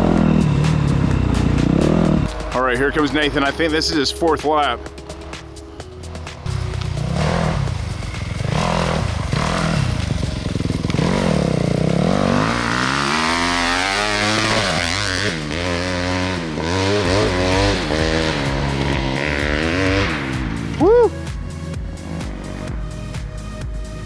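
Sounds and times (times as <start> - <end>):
dirt bike engine revving: 0.0 - 23.7.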